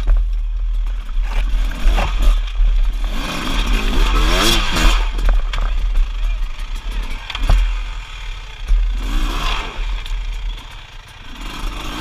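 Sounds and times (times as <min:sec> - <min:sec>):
dirt bike engine revving: 0:01.0 - 0:12.0.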